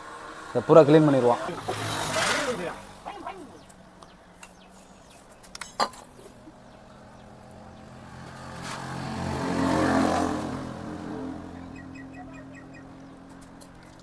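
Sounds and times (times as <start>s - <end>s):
vehicle engine passing by: 0.0s - 3.8s, 6.1s - 14.0s.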